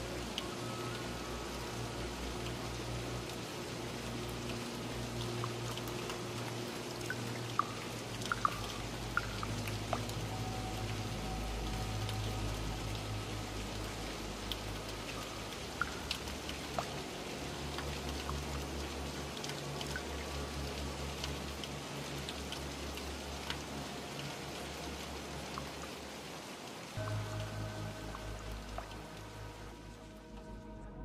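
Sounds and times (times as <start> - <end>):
rain hiss: 0.0 - 30.6
water drips: 0.0 - 30.7
low humming drone: 0.0 - 31.0.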